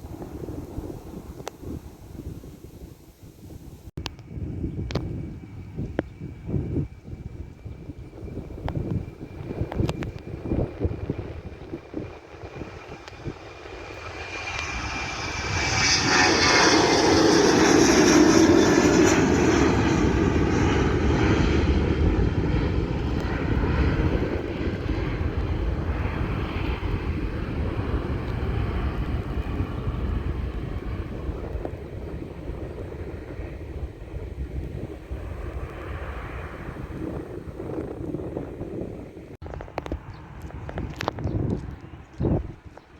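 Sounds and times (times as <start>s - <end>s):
jet airliner engines roaring: 0.0s - 42.9s.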